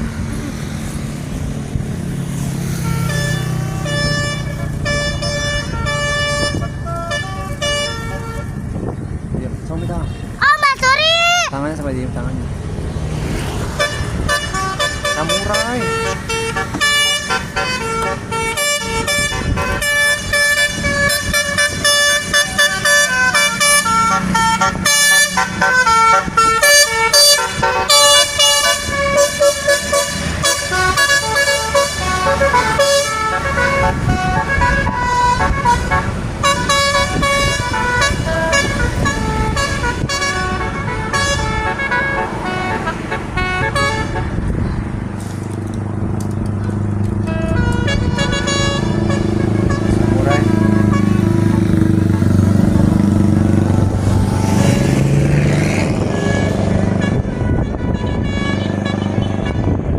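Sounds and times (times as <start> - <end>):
multi-tone bus air horn tune: 2.6 - 8.7, 13.8 - 44.6, 47.2 - 59.9.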